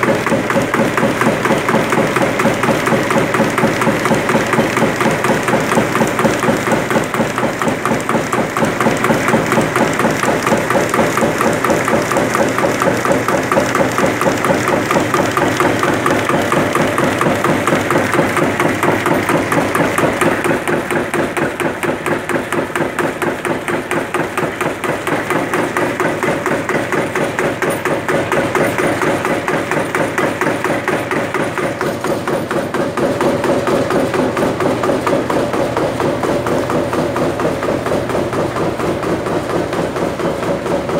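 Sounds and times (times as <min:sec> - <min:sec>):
machine drive running: 0:00.0 - 0:40.9
press ram knocking rhythmically: 0:00.0 - 0:40.9.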